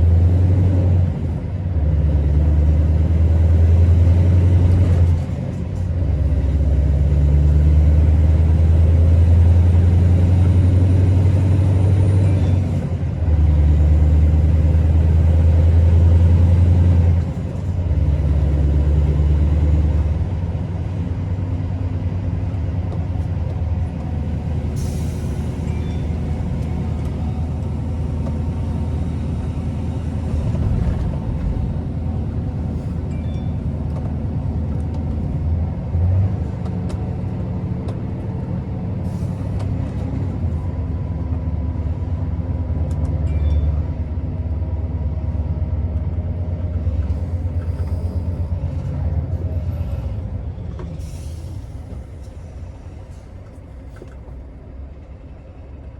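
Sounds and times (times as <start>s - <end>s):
truck diesel engine running: 0.0s - 55.9s.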